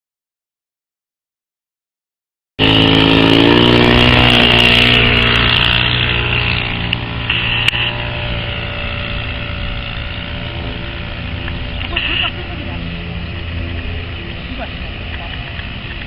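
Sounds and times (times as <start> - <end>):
model airplane engine running: 2.6 - 16.0.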